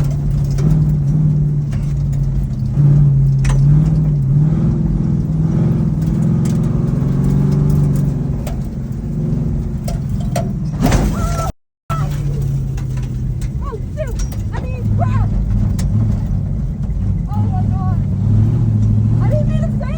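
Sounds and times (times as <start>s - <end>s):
sharp clicks and rattles: 0.0s - 19.9s
truck engine running hard: 0.0s - 19.9s.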